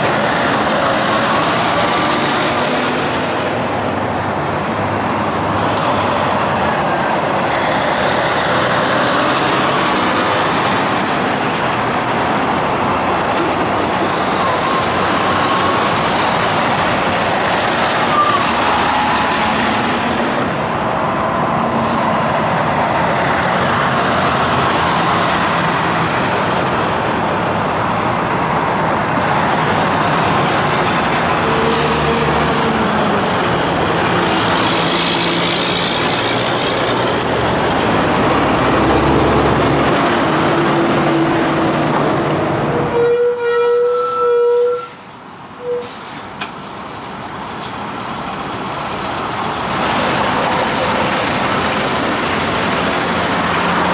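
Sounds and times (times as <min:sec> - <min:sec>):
trucks passing on highway: 0:00.0 - 0:53.9.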